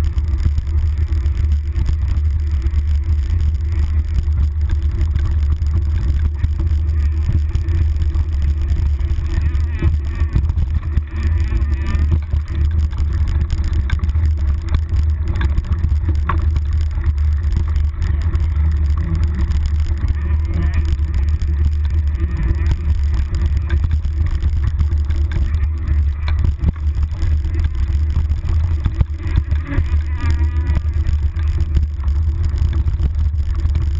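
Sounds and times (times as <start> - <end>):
bike rattling and knocking: 0.0 - 33.9.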